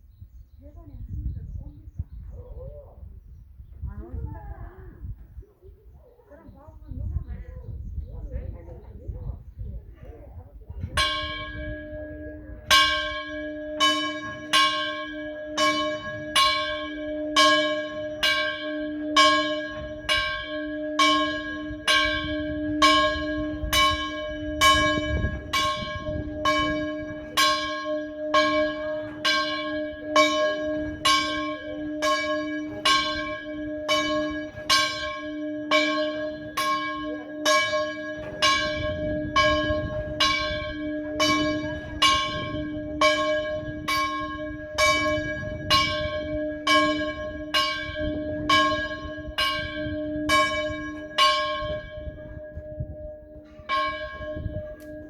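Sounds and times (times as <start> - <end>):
church bell ringing: 10.8 - 55.0.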